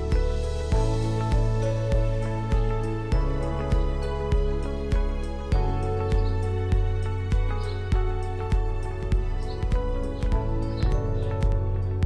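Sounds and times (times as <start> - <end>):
soft chords over steady beat: 0.0 - 12.0.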